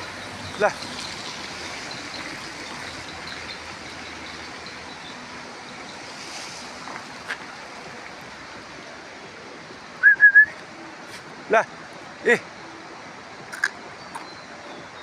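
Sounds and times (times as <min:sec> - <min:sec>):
rushing water noise: 0:00.0 - 0:15.0.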